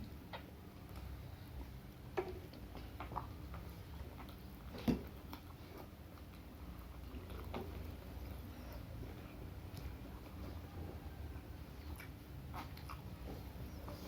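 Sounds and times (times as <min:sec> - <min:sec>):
person chewing: 0:00.3 - 0:14.0.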